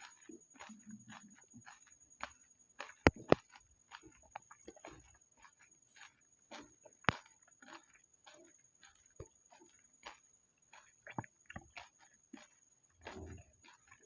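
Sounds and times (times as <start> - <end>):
wet chewing and crunching: 0.0 - 14.0.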